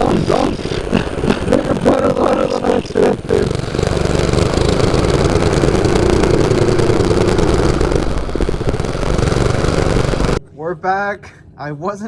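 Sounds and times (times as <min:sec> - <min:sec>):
engine knocks: 0:00.0 - 0:10.4
mini bike engine running: 0:00.0 - 0:10.4.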